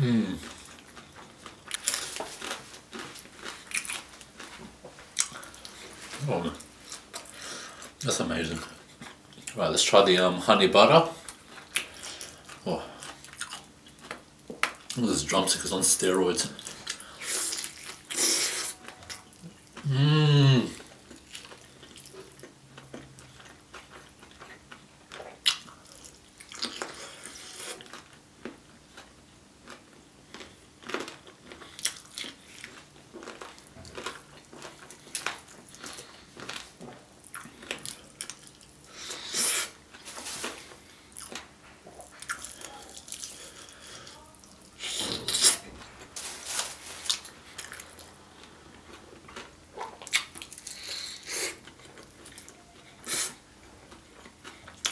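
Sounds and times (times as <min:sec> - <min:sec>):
biting and chewing fried chicken: 0:00.3 - 0:09.7, 0:15.8 - 0:54.9.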